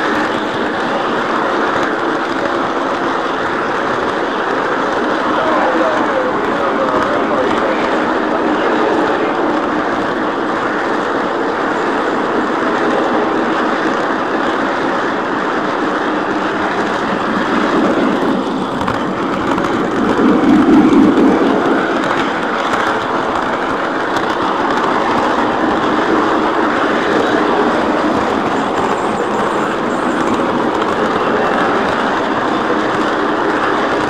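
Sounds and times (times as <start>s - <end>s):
model train wheels running: 0.0s - 34.0s.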